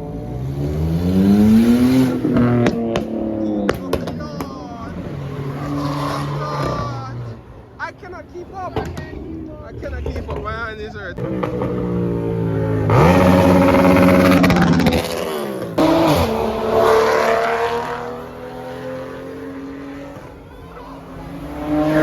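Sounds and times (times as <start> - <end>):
car engine revving hard: 0.0 - 7.5, 11.2 - 20.4, 21.0 - 22.0.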